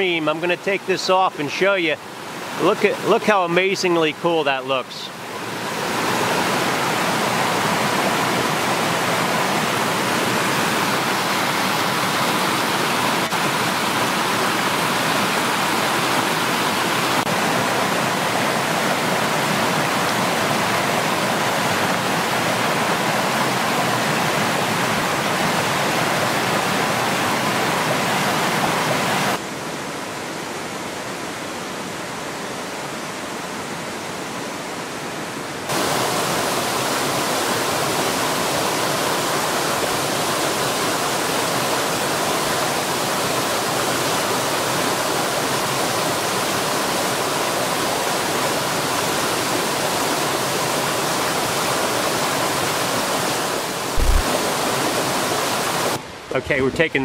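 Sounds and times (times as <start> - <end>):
stream rushing over rocks: 0.0 - 56.2.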